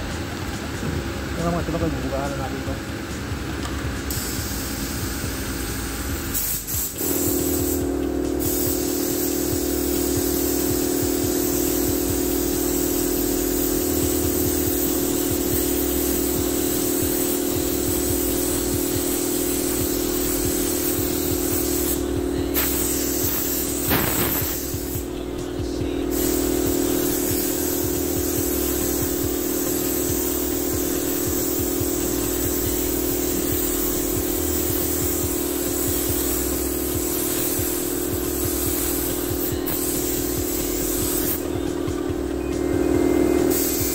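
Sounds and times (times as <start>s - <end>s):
machine hum: 0.0s - 43.9s
paint spray gun hissing: 3.7s - 43.9s.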